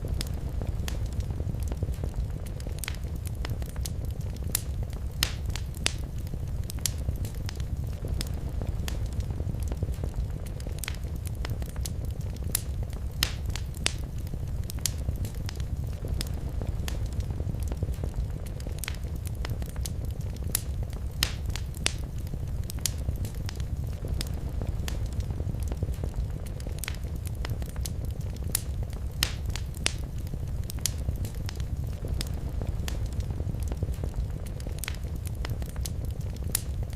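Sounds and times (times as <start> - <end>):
fire crackles and pops: 0.0 - 36.9
low rumble of flames: 0.0 - 36.9.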